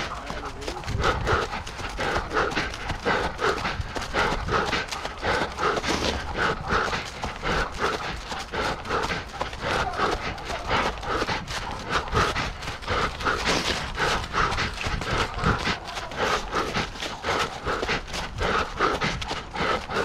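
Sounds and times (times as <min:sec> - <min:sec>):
hard rhythmic breathing: 0:00.0 - 0:20.0
running footsteps: 0:00.0 - 0:20.0.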